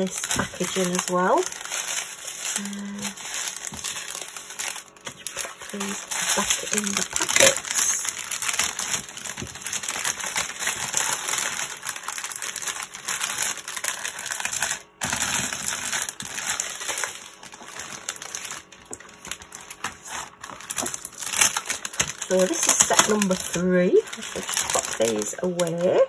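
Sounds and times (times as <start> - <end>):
thin plastic crinkling: 0.0 - 26.0.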